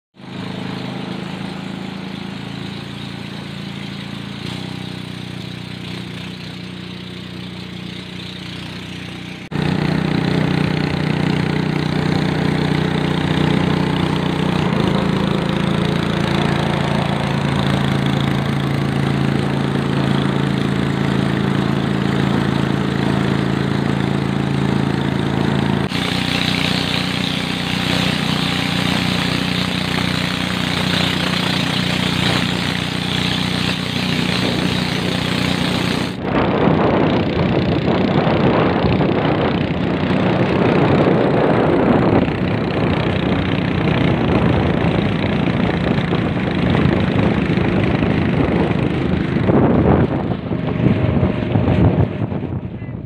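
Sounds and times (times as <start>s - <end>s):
motorboat engine running: 0.1s - 53.0s
water rushing along hull: 0.2s - 52.8s.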